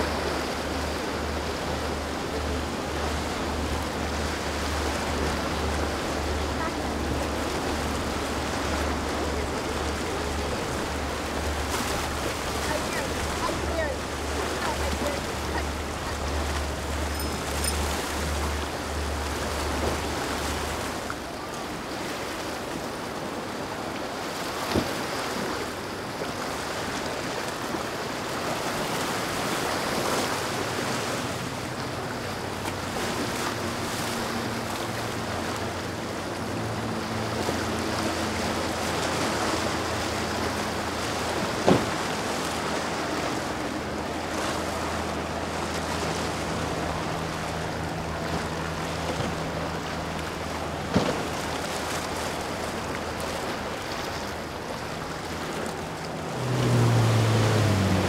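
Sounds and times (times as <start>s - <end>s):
boat engine droning: 0.0s - 58.0s
waves breaking: 0.0s - 58.0s.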